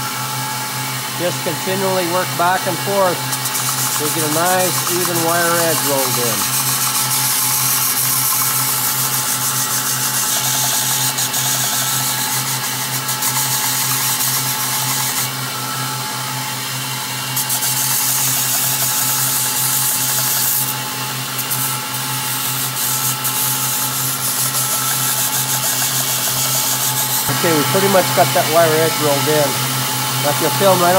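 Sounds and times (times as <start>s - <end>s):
belt grinder motor hum: 0.0s - 30.9s
steel blade grinding on belt: 1.4s - 16.0s, 17.4s - 30.9s.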